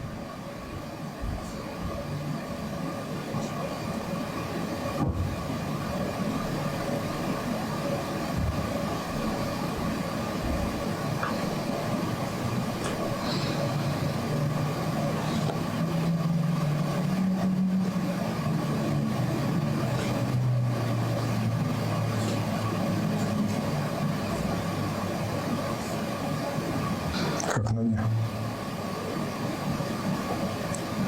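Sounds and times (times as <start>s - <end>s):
mechanical hum with low drone: 0.0s - 31.0s.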